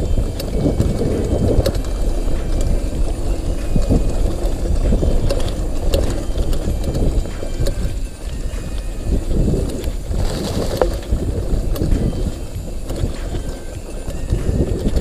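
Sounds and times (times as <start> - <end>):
bike clicks and rattles: 0.0 - 15.0
wind buffeting microphone: 0.0 - 15.0.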